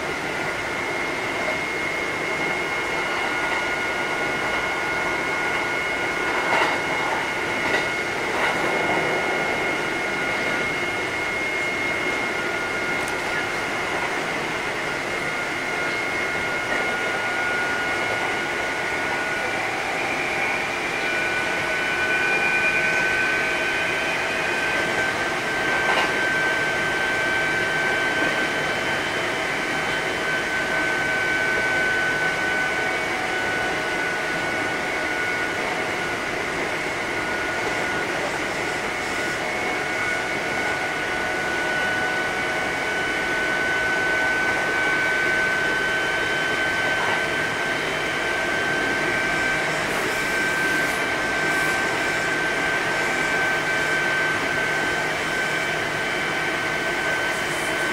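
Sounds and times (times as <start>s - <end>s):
electric train running noise: 0.0s - 57.9s
high train whine: 0.0s - 57.9s.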